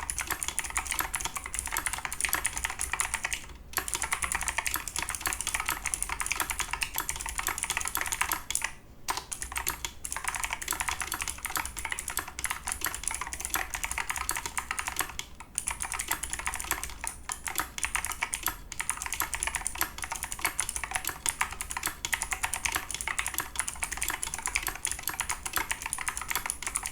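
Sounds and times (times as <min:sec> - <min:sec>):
fast typing on mechanical keyboard: 0:00.0 - 0:26.9.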